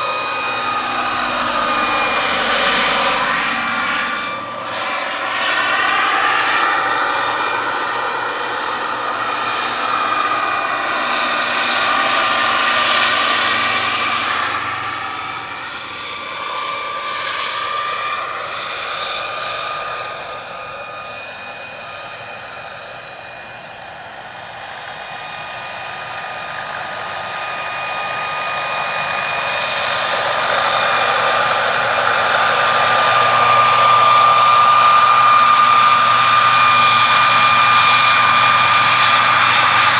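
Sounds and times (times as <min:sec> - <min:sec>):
helicopter rotor noise: 0:00.0 - 0:39.9
model helicopter turbine whining: 0:00.0 - 0:39.9.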